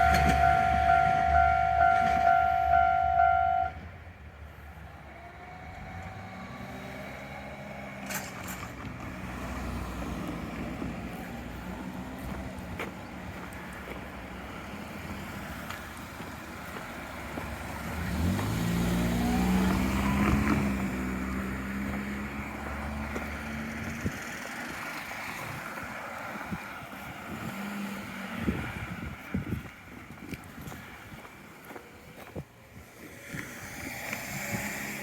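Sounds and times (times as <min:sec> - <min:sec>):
vehicle engine revving: 0:00.0 - 0:03.8, 0:04.5 - 0:29.6, 0:32.7 - 0:35.0.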